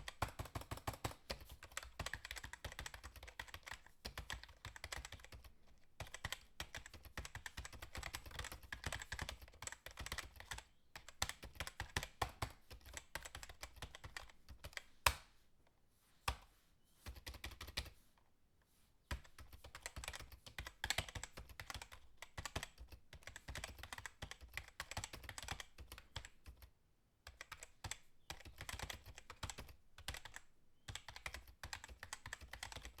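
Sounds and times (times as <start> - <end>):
typing on computer keyboard: 0.0 - 14.9, 17.1 - 17.9, 19.1 - 26.7, 27.3 - 33.0.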